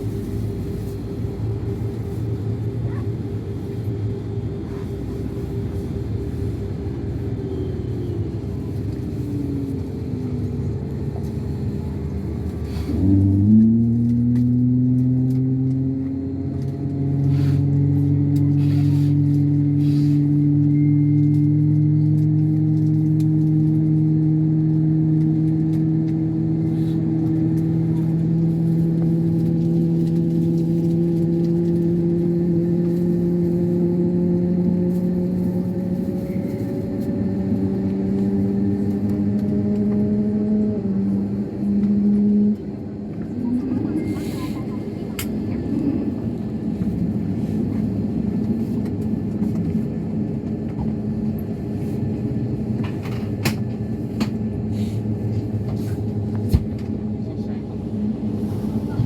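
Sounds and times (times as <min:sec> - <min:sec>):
airliner engines rumbling: 0:00.0 - 0:59.0.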